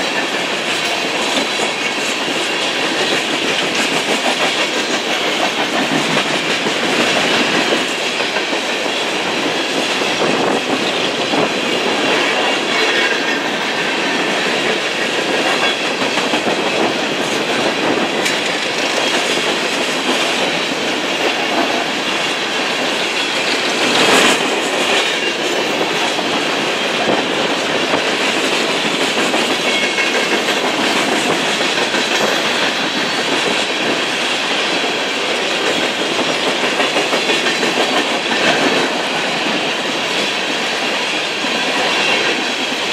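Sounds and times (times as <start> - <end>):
freight train wheels clattering: 0.0 - 42.9.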